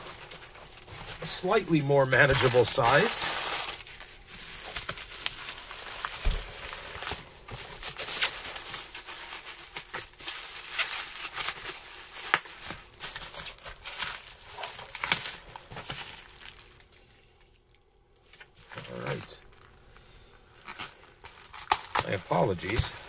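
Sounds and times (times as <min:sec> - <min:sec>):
bubble wrap crinkling and crackling: 0:00.0 - 0:23.0.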